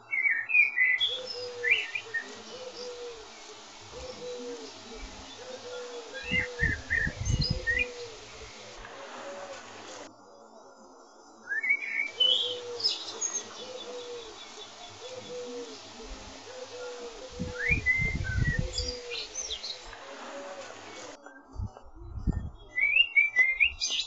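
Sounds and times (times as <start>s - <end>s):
rising whistled bird calls: 0.0s - 10.1s, 11.4s - 21.5s, 22.6s - 24.0s.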